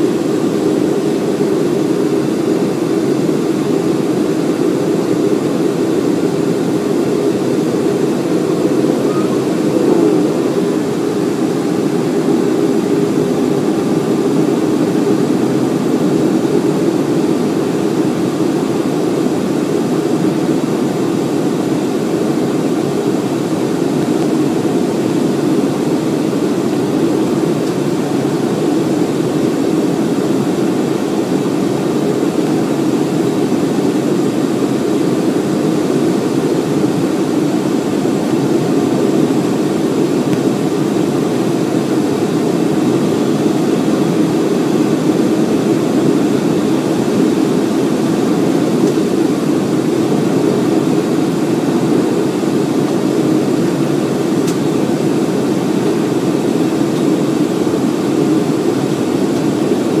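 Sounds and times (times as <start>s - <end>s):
airplane cabin noise: 0.0s - 60.0s.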